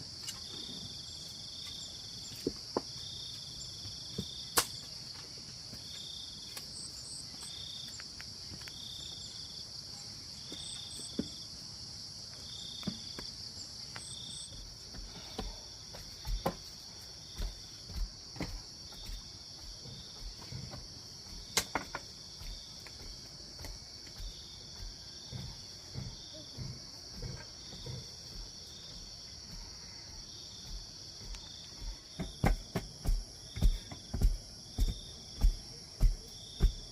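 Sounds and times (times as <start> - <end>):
insects chorus: 0.0 - 36.9.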